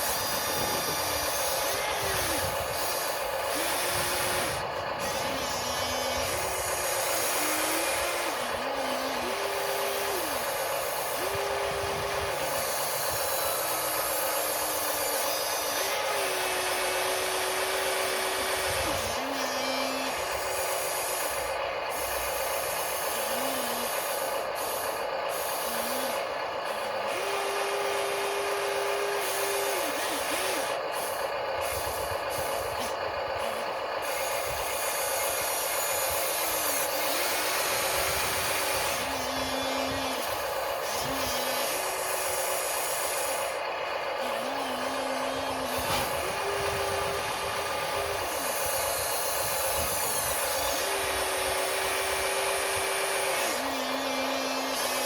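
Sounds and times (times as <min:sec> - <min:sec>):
small electric motors whining: 0:00.0 - 0:55.0.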